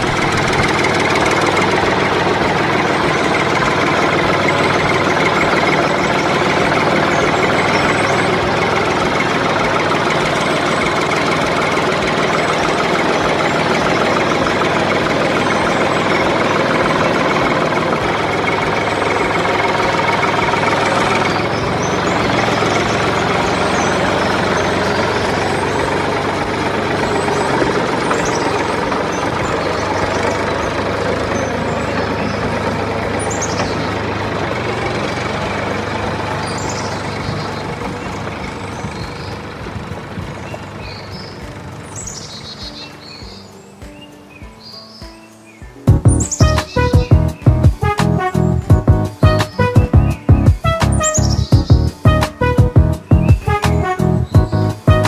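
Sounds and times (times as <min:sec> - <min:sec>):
engine running with rattling clatter: 0:00.0 - 0:44.3, 0:45.7 - 0:55.0.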